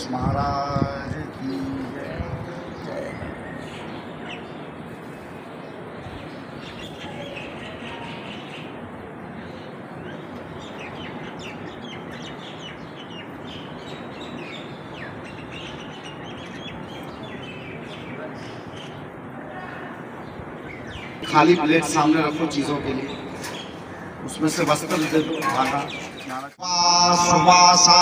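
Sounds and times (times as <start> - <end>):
birds chirping: 0.0 - 28.0
steady background noise: 0.0 - 28.0.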